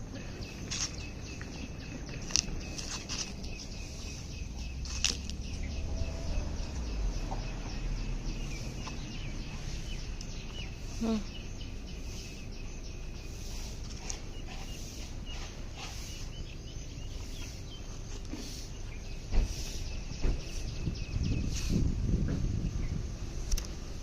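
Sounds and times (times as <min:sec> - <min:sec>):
birds chirping: 0:00.0 - 0:24.0
outdoor background noise: 0:00.0 - 0:24.0.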